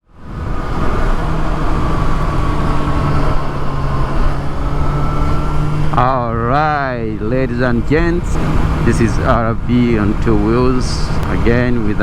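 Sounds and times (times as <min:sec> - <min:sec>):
motorcycle engine running: 0:00.2 - 0:12.0.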